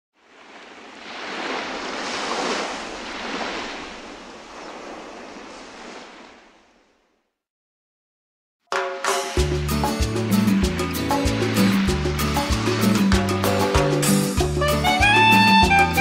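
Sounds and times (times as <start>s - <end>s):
rushing water: 0.2s - 6.9s, 9.2s - 16.0s.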